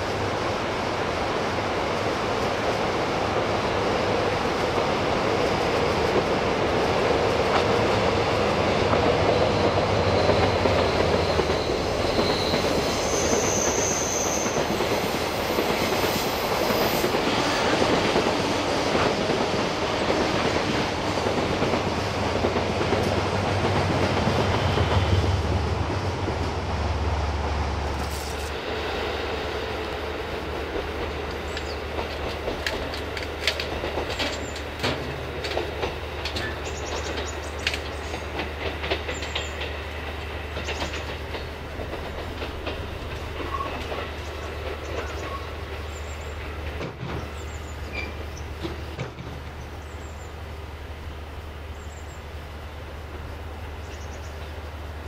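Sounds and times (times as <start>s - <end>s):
freight train wheels clattering: 1.8s - 26.6s, 29.2s - 50.2s.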